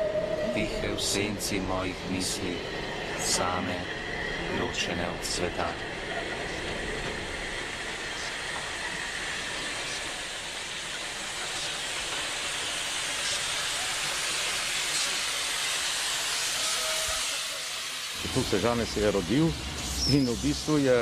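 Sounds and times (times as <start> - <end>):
rail clicks: 0.0 - 17.4
train rushing hiss: 0.0 - 21.0.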